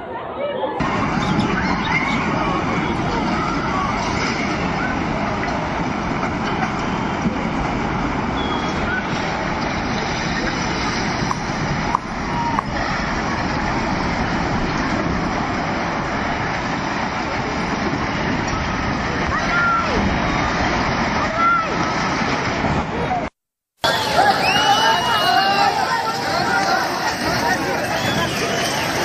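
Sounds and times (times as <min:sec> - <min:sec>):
landslide roaring: 0:00.8 - 0:29.0.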